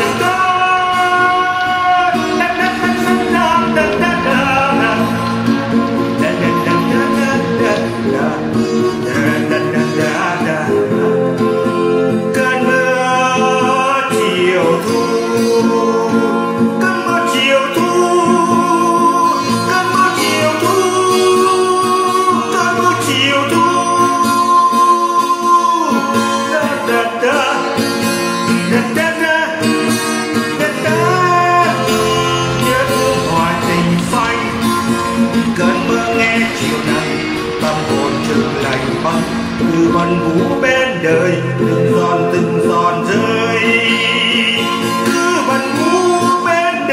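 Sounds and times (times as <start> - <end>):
person singing slow melody: 0.0 - 11.6, 12.2 - 46.9
plucked guitar: 0.0 - 46.9.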